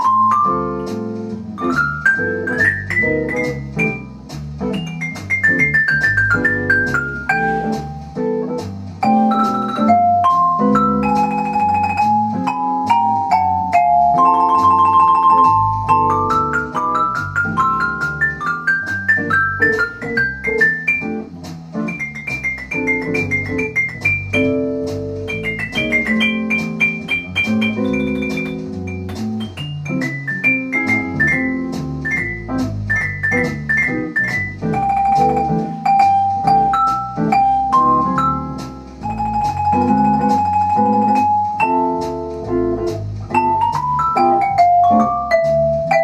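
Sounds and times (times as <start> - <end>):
bass line accompaniment: 0.0 - 46.0
vibraphone jazz solo: 0.0 - 46.0.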